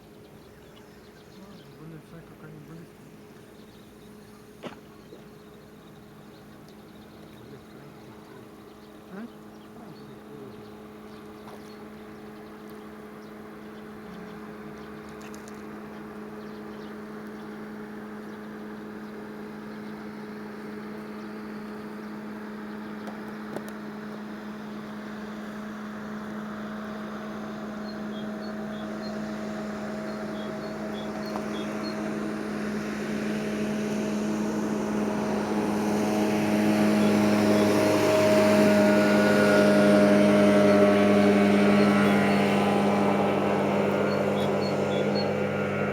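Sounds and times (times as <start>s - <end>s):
motorboat engine humming: 0.0s - 45.9s.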